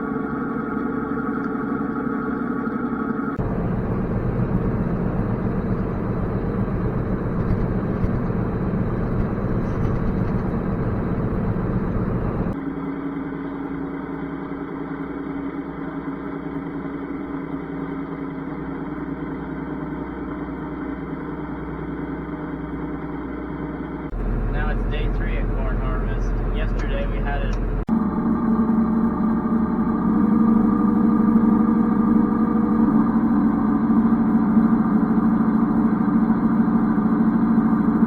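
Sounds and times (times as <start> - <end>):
harvester engine drone: 0.0 - 19.2, 23.0 - 38.0.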